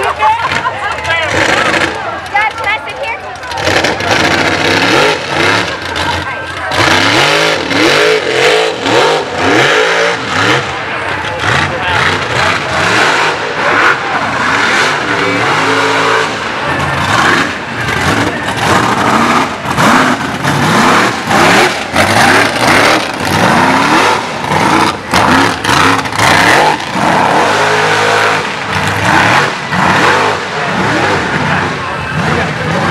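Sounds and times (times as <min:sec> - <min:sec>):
buggy engine revving hard: 0:00.0 - 0:02.3, 0:03.4 - 0:32.9.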